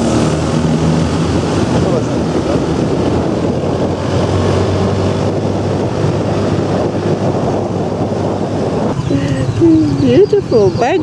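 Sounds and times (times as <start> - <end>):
vehicle engine running: 0.0 - 11.0
wind noise on microphone: 0.0 - 11.0.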